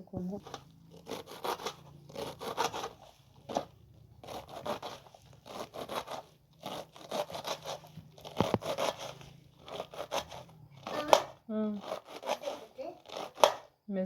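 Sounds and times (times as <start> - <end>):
crunching scraping and rustling: 0.2 - 13.7.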